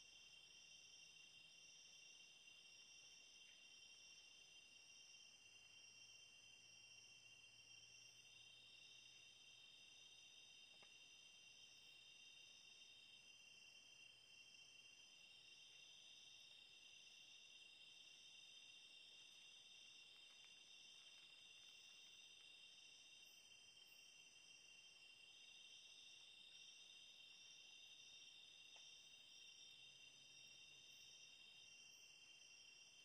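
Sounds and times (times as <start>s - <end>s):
night insects chorus: 0.0s - 33.0s.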